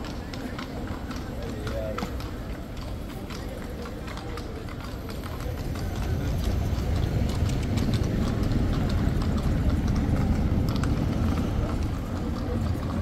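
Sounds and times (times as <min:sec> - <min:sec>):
horse hooves clopping: 0:00.0 - 0:13.0
street traffic rumble: 0:00.0 - 0:13.0.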